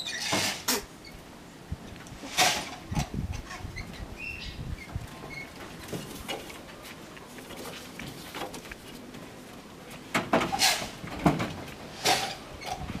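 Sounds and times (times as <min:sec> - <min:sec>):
knocks and scraping rustles: 0:00.0 - 0:01.2, 0:01.8 - 0:04.1, 0:04.7 - 0:13.0
monkey climbing wooden wall: 0:02.3 - 0:13.0.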